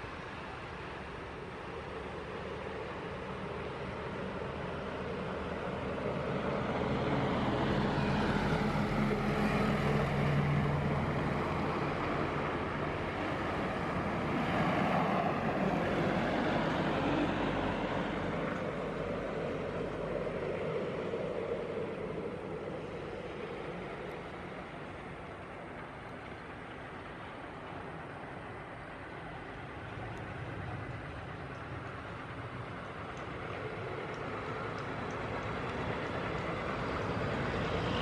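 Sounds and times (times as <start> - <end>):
jet engines roaring: 5.0 - 38.0.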